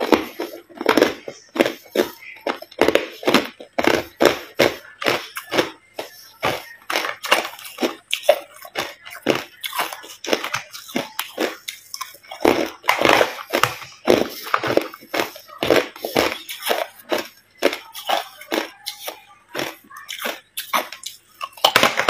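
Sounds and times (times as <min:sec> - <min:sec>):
ice crunching between teeth: 0:00.0 - 0:22.0.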